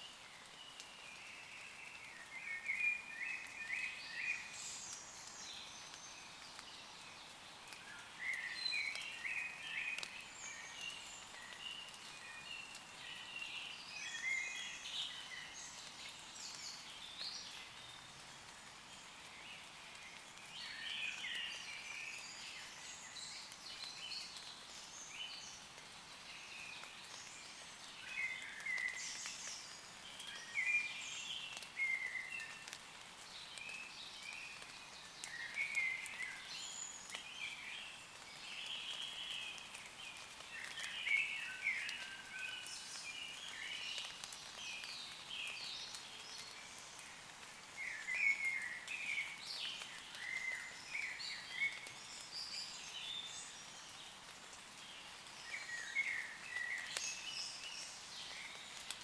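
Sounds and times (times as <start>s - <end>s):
light rain hiss: 0.0s - 59.0s
songbirds singing: 0.0s - 59.0s.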